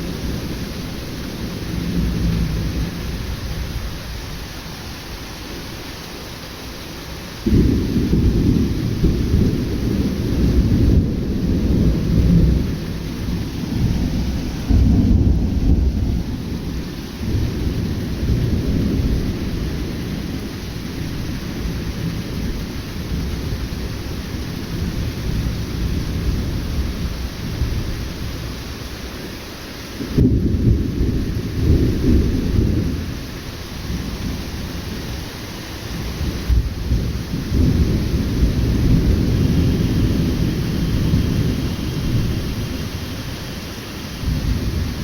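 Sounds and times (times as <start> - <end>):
thunder rumbling: 0.0 - 4.6, 7.4 - 45.0
steady rain: 0.0 - 45.0.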